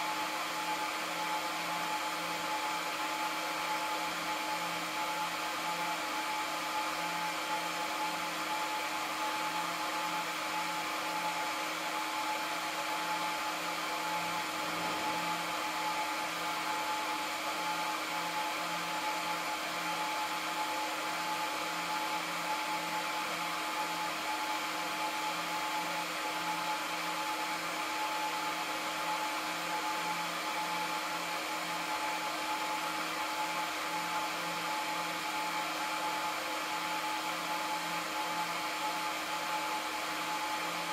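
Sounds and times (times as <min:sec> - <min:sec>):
steady fan whine: 0:00.0 - 0:40.9.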